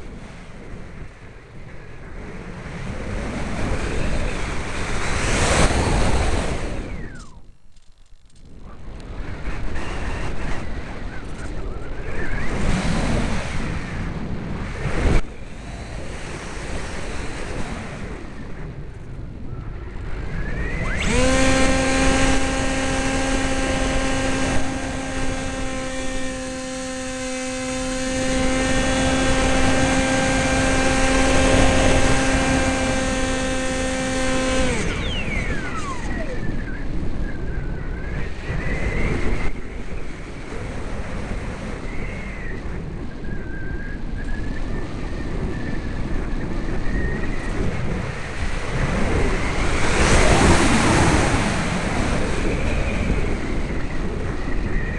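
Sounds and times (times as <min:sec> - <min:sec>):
electric motor and propeller whine: 0:00.0 - 0:07.6, 0:08.2 - 0:54.9
wind rushing: 0:08.6 - 0:54.9.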